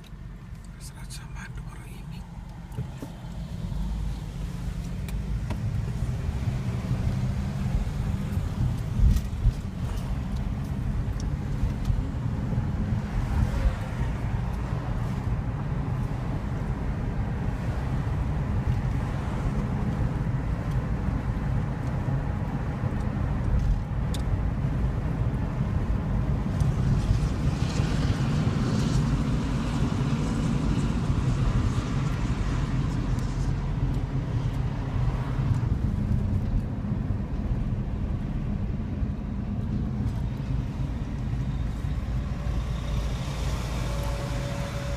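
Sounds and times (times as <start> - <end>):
vehicle rumbling from inside: 0.0 - 44.9.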